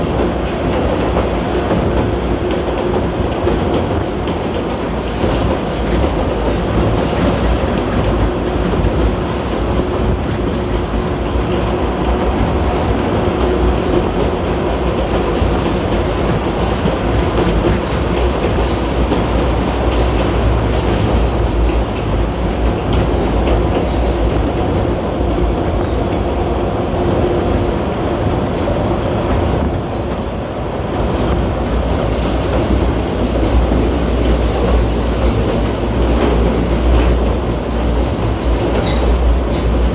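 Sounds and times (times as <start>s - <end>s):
clickety-clack of track: 0.0s - 39.9s
train wheels rumbling on rails: 0.0s - 39.9s.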